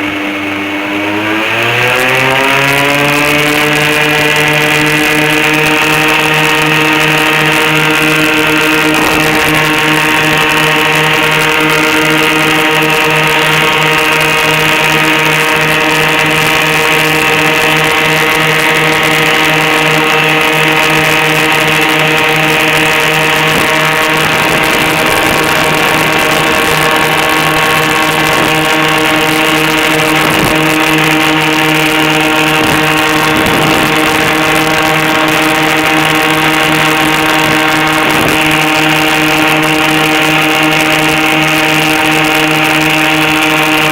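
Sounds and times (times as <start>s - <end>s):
airboat engine and propeller drone: 0.0s - 43.9s.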